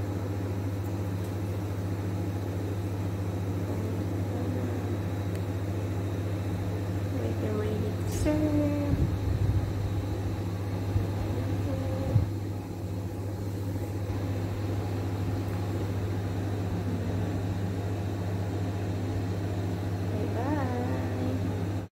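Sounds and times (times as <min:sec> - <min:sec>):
low hum: 0:00.0 - 0:21.9.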